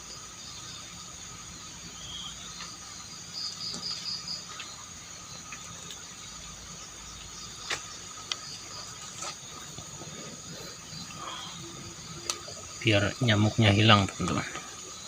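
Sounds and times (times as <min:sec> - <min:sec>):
crickets and insects trilling: 0:00.0 - 0:15.0.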